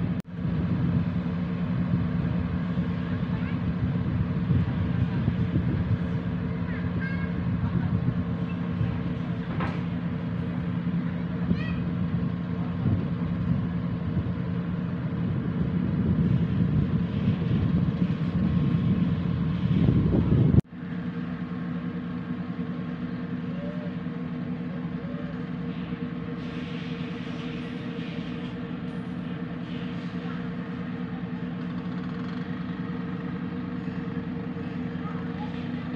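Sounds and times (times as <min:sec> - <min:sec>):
boat engine humming: 0:00.0 - 0:35.9
rough low rumble: 0:00.0 - 0:35.9.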